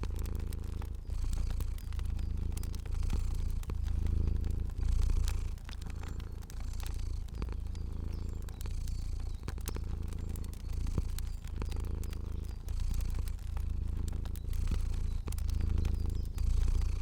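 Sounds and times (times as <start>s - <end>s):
cat purring: 0.0s - 17.0s
fire crackling: 0.0s - 17.0s.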